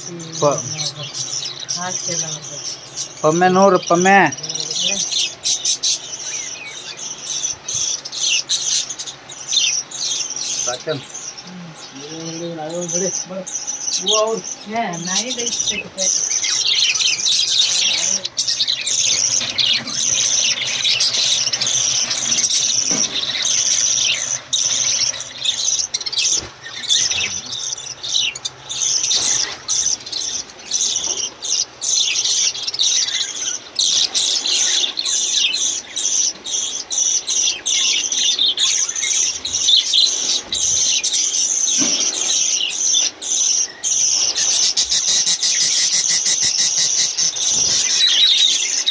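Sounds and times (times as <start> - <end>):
budgerigars chattering: 0.0 - 48.9.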